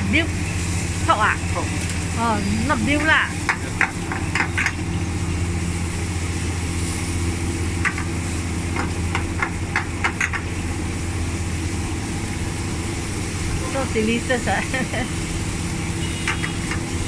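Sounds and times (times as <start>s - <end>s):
oil frying in a wok: 0.0s - 17.0s
spaghetti sizzling in a frying pan: 0.0s - 17.0s
steady low hum: 0.0s - 17.0s.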